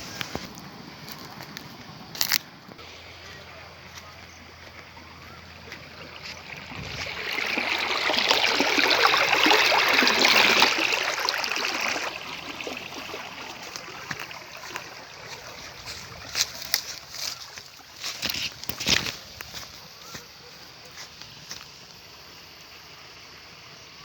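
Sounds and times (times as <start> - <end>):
water rushing and splashing: 2.8 - 22.2.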